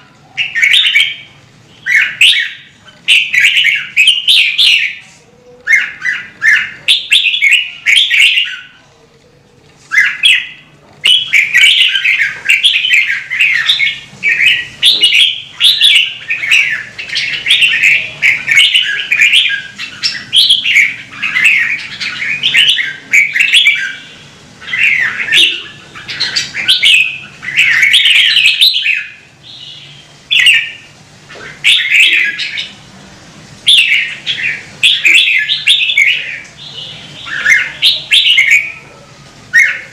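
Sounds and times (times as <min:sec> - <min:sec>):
bird singing fluty warbles: 0:00.0 - 0:08.9, 0:09.6 - 0:32.9, 0:33.6 - 0:39.9.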